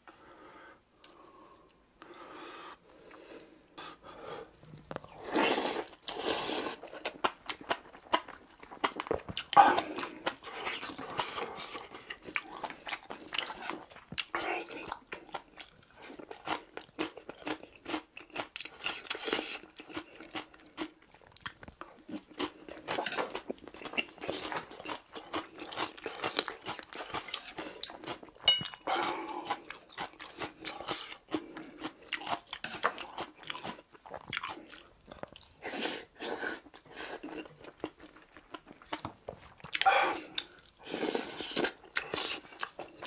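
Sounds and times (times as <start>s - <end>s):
person chewing crunchy food: 3.1s - 43.0s.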